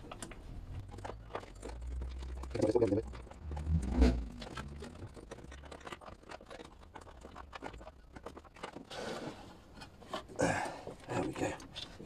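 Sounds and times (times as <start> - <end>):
tools clicking and rustling: 0.0 - 12.0.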